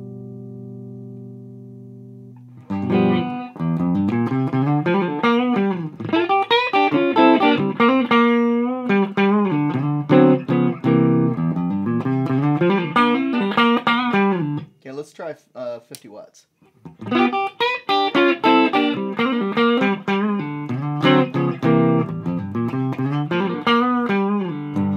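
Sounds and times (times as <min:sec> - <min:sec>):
clean electric guitar playing: 0:00.0 - 0:14.7, 0:16.8 - 0:24.9.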